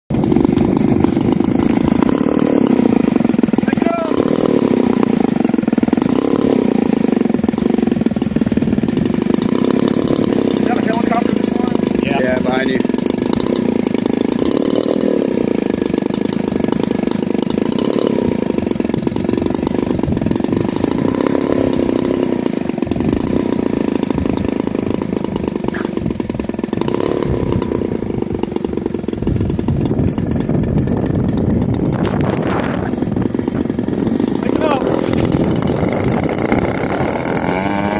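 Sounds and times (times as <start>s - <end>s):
aircraft gasoline engine running: 0.1s - 37.9s.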